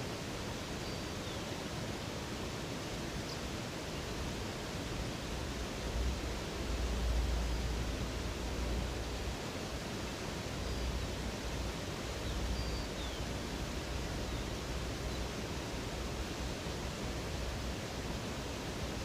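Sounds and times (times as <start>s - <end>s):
rushing river water: 0.0s - 19.0s.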